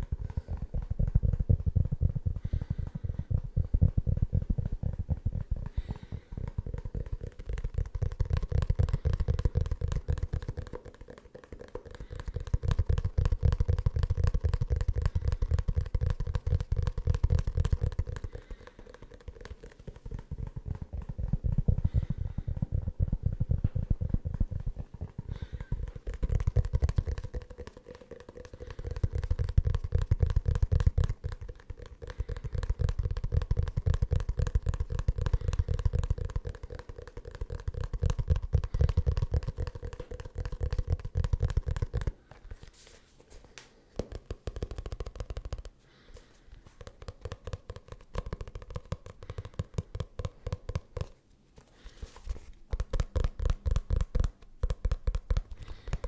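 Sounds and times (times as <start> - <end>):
fingertips tapping on leather: 0.0 - 42.8, 43.4 - 56.0.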